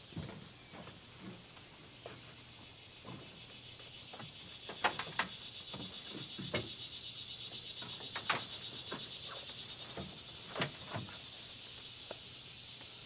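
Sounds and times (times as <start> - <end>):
high insect chorus: 0.0 - 13.0.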